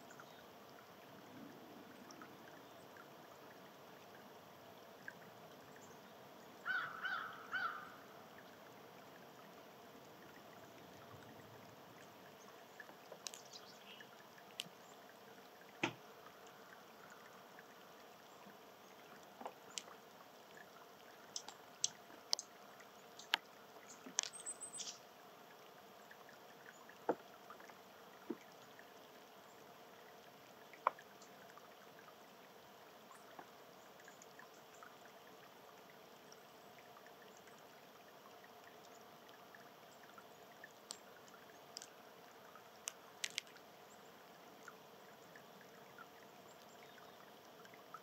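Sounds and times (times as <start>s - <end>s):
faint steady hiss: 0.0s - 48.0s.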